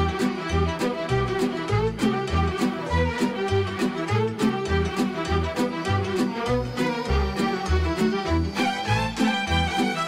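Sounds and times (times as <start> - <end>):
instrumental music with bass beat: 0.0 - 10.0.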